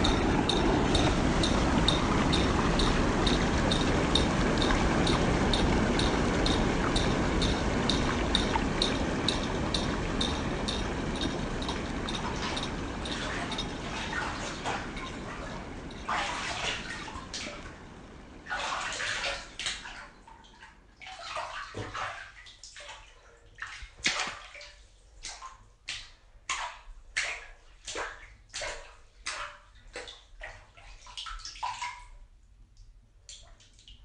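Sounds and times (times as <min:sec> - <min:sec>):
water sloshing and splashing: 0:00.0 - 0:32.2
water dripping: 0:00.0 - 0:34.0.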